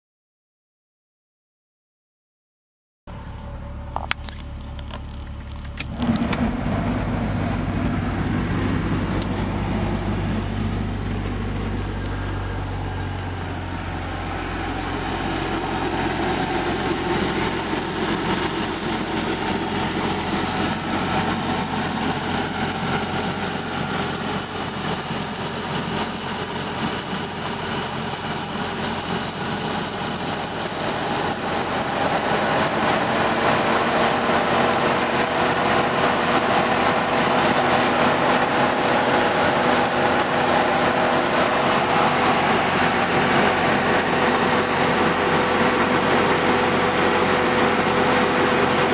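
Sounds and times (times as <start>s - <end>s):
car engine idling: 3.1s - 48.9s
fast high-pitched rattle: 8.4s - 48.9s.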